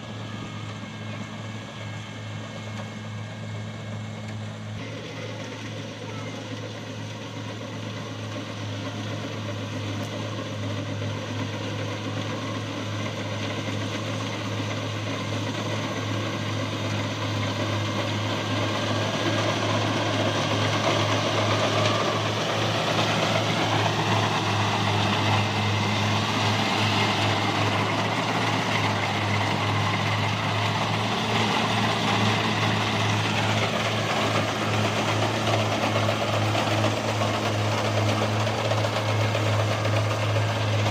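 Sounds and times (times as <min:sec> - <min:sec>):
combine harvester engine drone: 0:00.0 - 0:40.9
harvesting machinery clatter: 0:00.0 - 0:40.9.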